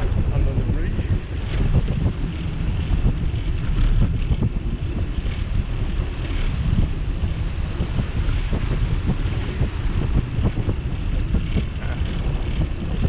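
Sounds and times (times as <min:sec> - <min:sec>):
bicycle rattles and ticks: 0:00.0 - 0:13.0
wind buffeting microphone: 0:00.0 - 0:13.0.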